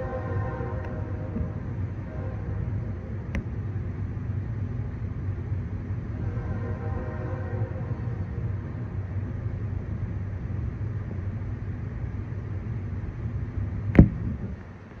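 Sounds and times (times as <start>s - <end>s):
train rolling past rumbling: 0.0s - 15.0s.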